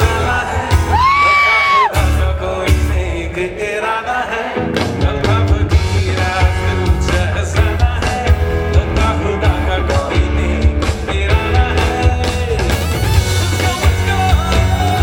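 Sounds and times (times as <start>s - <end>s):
live band playing pop-rock: 0.0s - 15.0s.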